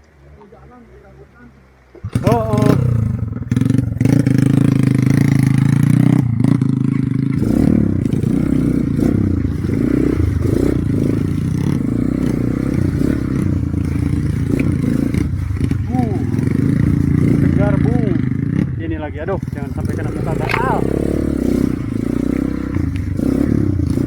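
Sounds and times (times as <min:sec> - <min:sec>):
motorcycle engine running: 0:02.0 - 0:24.0.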